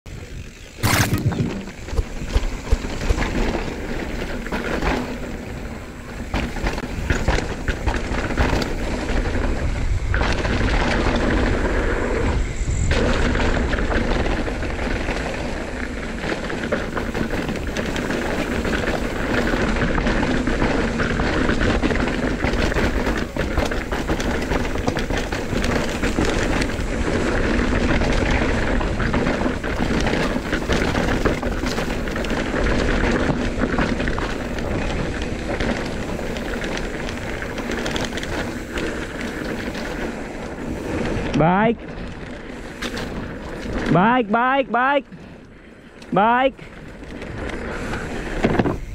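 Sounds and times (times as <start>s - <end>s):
bike rattling and clicking: 0.1s - 48.9s
tyre and wind rush: 0.1s - 48.9s.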